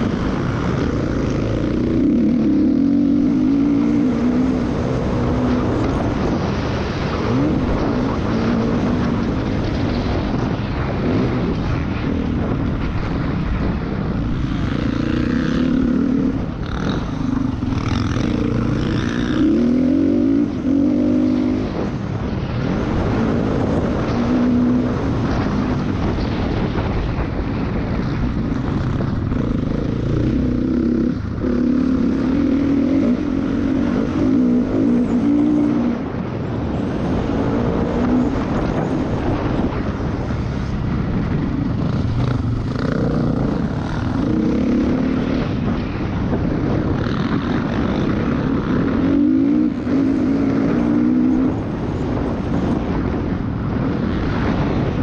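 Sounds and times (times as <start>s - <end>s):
dirt bike engine revving: 0.0s - 27.3s, 28.1s - 55.0s
wind on microphone: 0.0s - 55.0s.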